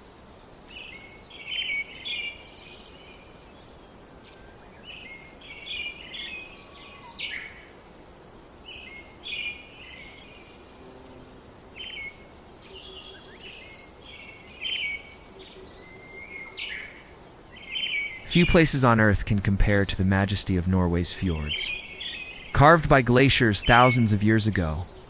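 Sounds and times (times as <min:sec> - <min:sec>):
faint background hiss: 0:00.0 - 0:25.0
songbirds chirping: 0:00.0 - 0:25.0.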